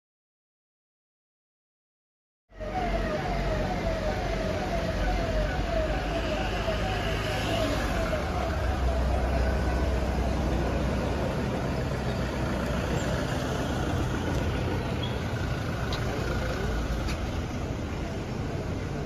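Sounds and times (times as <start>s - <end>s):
cars driving slowly past: 2.6s - 19.0s.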